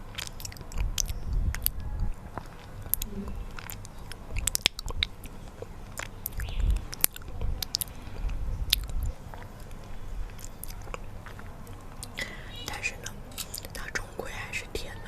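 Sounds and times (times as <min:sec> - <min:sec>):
sticky chewing: 0:00.1 - 0:14.9
wet mouth and lip clicks: 0:00.2 - 0:01.8, 0:02.4 - 0:14.0.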